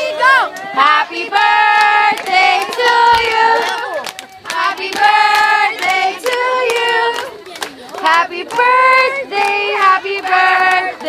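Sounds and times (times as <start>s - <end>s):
group of people singing and shouting: 0.0s - 11.0s
hand claps: 1.6s - 11.0s.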